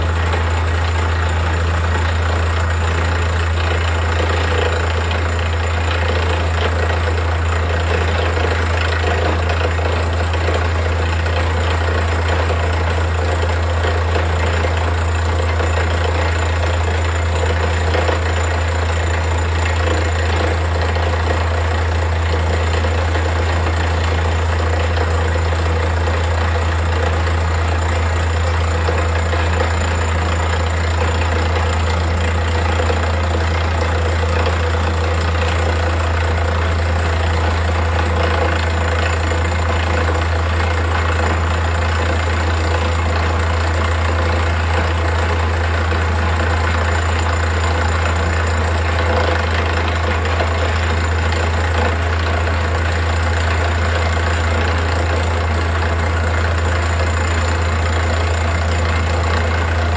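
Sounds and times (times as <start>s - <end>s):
drilling rig engine humming: 0.0s - 59.9s.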